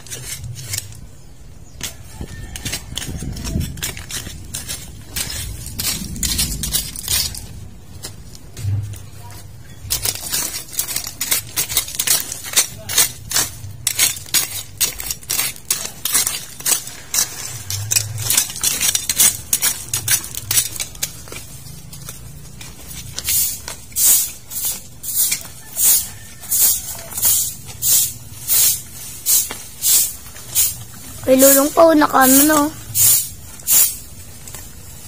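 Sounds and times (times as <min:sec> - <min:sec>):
dry weeds crackling and rustling: 0:00.0 - 0:35.0.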